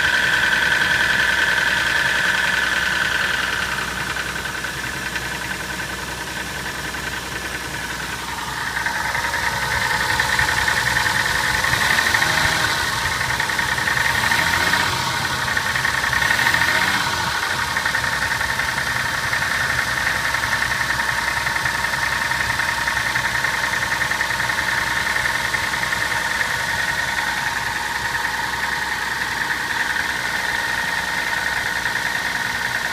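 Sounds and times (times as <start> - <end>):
car engine knocking: 0.0 - 32.9.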